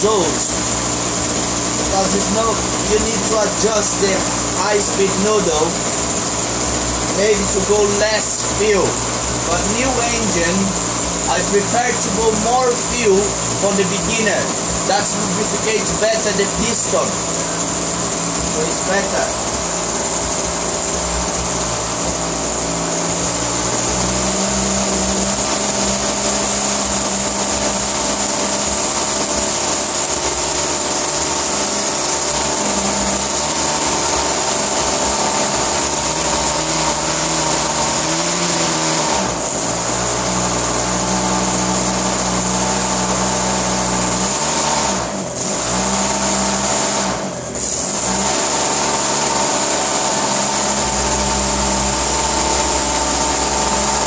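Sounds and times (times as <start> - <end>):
model aircraft engine running: 0.0 - 54.0.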